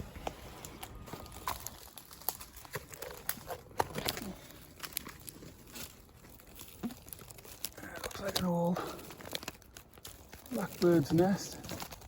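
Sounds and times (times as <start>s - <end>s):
leaves and twigs rustling: 0.0s - 12.0s.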